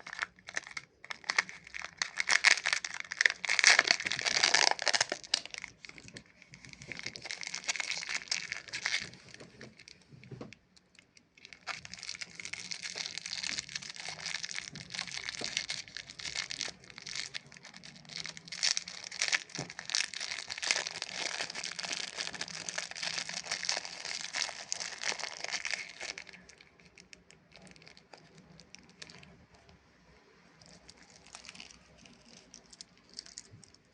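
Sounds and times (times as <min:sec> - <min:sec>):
plastic wrapper crinkling: 0:00.0 - 0:29.8, 0:30.6 - 0:33.9.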